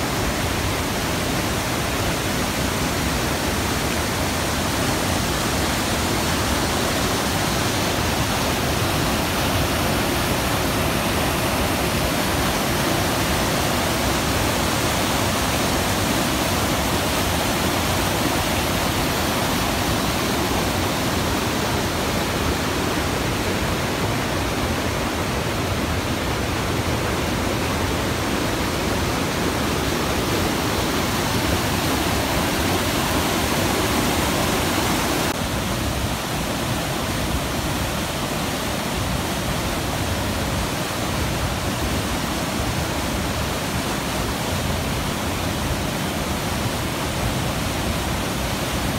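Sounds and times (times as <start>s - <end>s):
river rushing over boulders: 0.0s - 48.9s.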